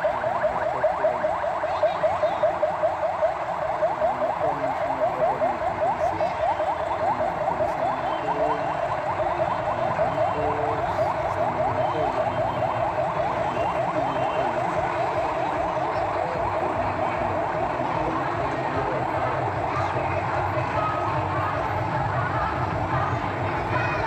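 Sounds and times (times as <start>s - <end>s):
police siren yelping: 0.0s - 24.0s.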